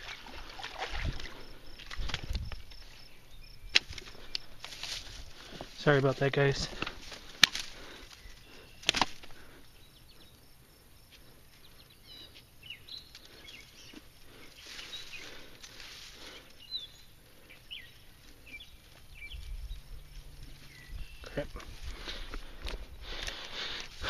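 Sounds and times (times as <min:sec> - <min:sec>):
rustling of dry grass and rock: 0:00.0 - 0:24.0
small birds chirping: 0:00.0 - 0:24.0.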